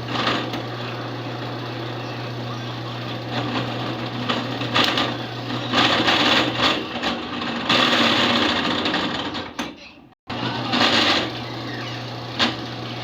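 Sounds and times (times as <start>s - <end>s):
power tool motor cutting: 0.0s - 9.4s, 10.3s - 13.0s.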